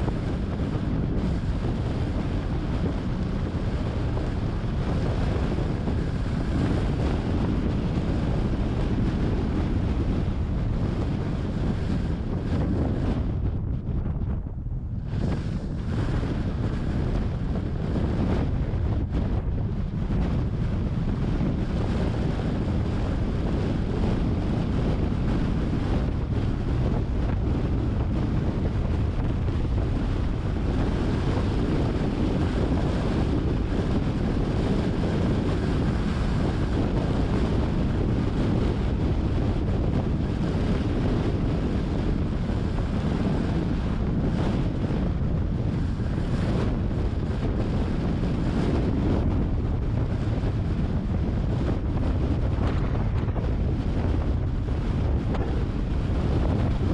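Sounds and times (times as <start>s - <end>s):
road rumble: 0.0s - 56.9s
wind noise on microphone: 0.0s - 56.9s.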